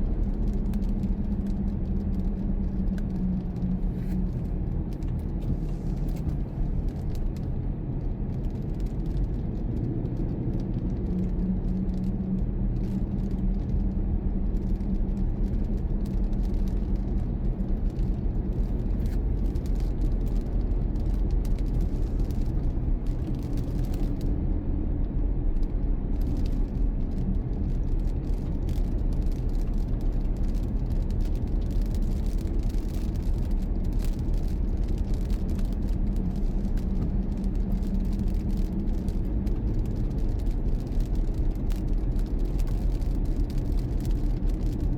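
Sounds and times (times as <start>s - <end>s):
car engine and road rumble: 0.0s - 44.9s.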